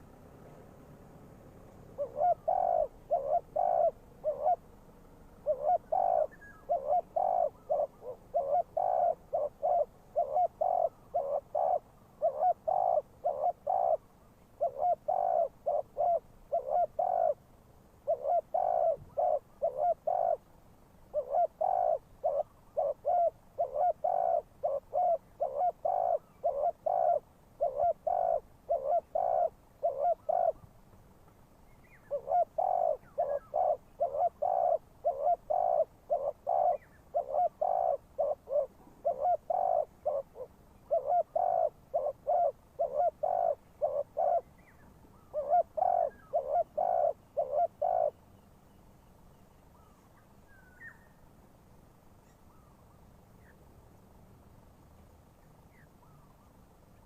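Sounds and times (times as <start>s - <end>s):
dove cooing: 0.0s - 30.7s, 31.8s - 48.2s.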